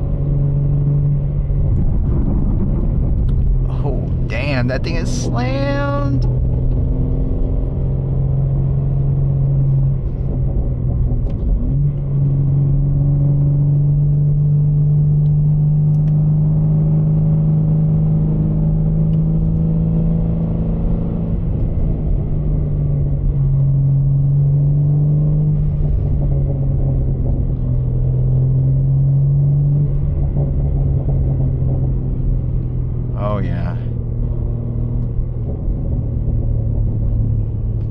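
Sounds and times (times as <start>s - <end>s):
car engine droning in cabin: 0.0s - 37.9s.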